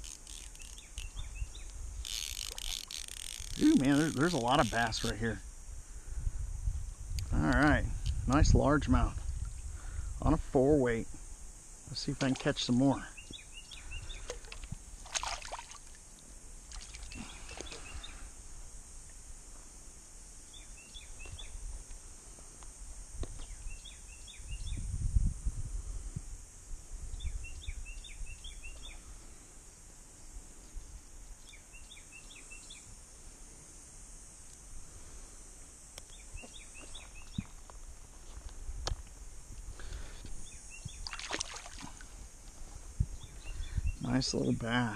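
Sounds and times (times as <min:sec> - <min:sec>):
steady high hiss: 0:00.0 - 0:44.9.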